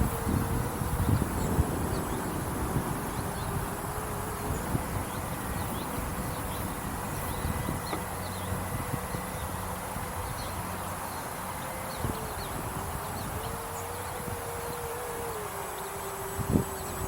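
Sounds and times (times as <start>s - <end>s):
electric ducted fan whine: 0.0s - 17.0s
wind rumble on microphone: 0.0s - 17.0s.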